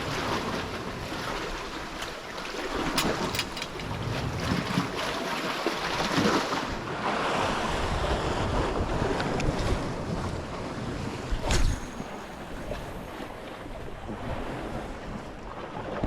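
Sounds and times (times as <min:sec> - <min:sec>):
sea waves washing against rocks: 0:00.0 - 0:16.0
wind buffeting microphone: 0:02.6 - 0:16.0.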